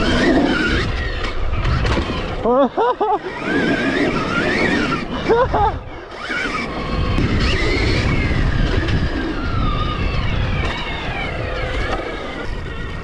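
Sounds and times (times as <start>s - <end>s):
electric motorbike motor whining: 0.0s - 13.0s
wind rumble on microphone: 0.0s - 13.0s.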